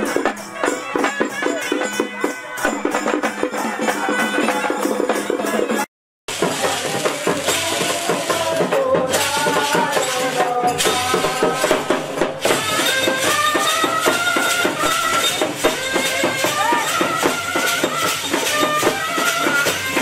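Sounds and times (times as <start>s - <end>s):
jingling tambourine-like percussion: 0.0s - 20.0s.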